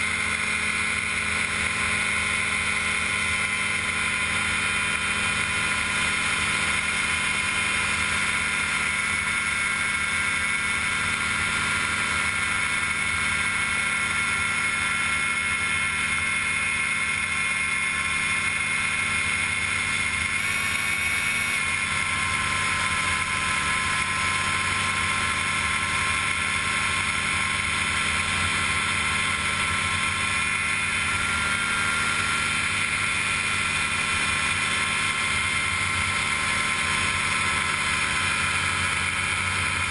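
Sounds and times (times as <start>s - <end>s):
gyroplane engine and propeller: 0.0s - 39.9s.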